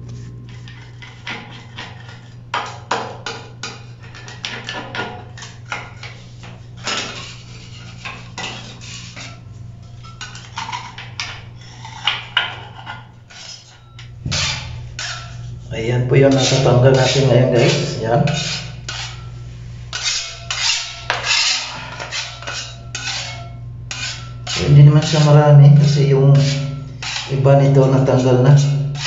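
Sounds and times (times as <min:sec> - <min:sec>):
steady low hum: 0:00.0 - 0:29.0
metal scraper grating on tile: 0:00.5 - 0:15.6, 0:16.3 - 0:29.0.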